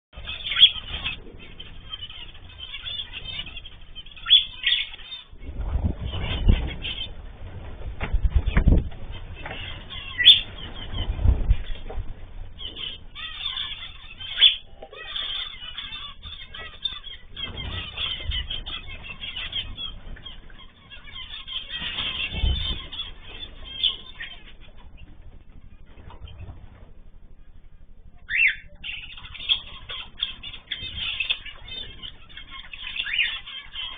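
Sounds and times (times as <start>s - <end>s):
cage birds chirping: 0.1s - 33.9s
sharp bird calls: 0.2s - 33.9s
wings flapping: 0.2s - 33.9s
low rumble: 5.3s - 32.6s.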